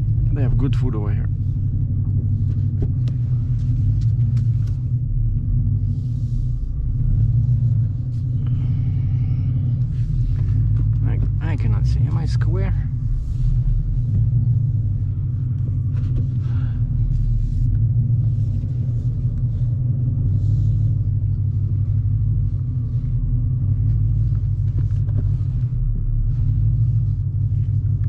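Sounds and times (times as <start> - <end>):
car engine low exhaust rumble: 0.0 - 28.0.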